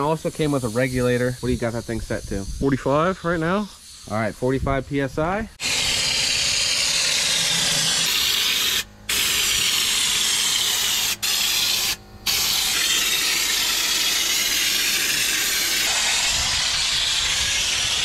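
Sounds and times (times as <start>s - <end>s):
spray gun hissing: 0.0s - 4.4s, 5.6s - 18.0s.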